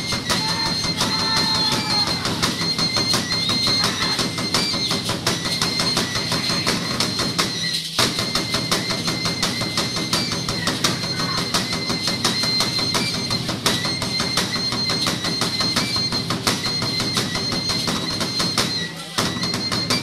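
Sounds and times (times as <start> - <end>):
fast percussion: 0.0 - 20.0.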